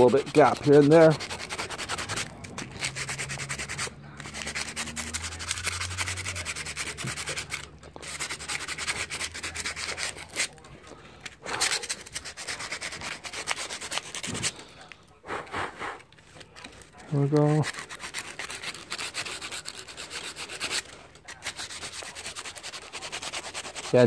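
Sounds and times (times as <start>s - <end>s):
sandpaper rubbing back and forth: 0.0s - 10.6s, 11.5s - 14.6s, 17.2s - 24.0s.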